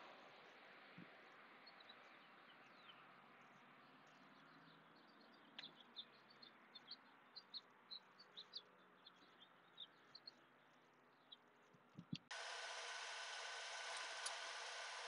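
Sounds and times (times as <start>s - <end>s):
small songbirds chirping: 0.0s - 15.0s.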